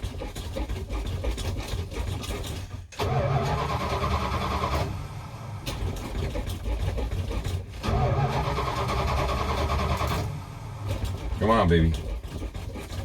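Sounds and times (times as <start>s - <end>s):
starter cranking engine: 2.1s - 13.0s.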